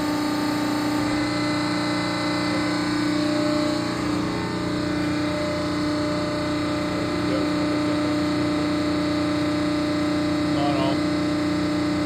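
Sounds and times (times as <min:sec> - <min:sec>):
hydraulic pump humming and whining: 0:00.0 - 0:12.0.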